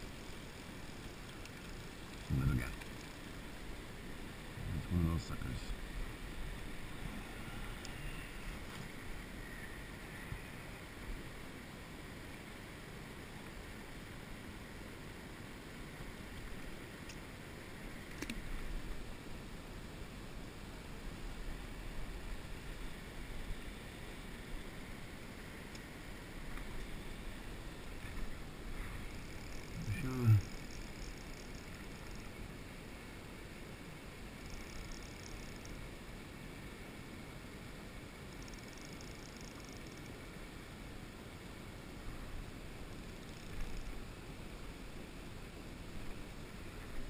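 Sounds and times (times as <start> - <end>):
river water flowing: 0.0 - 47.0.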